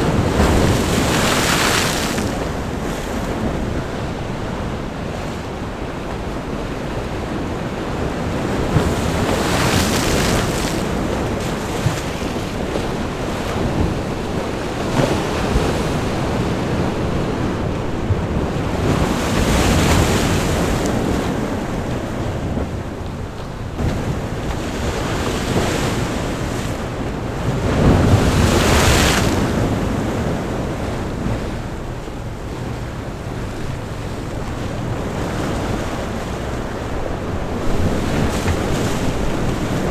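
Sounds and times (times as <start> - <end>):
surf wash: 0.0 - 39.9
waves breaking on rocky shore: 0.0 - 39.9.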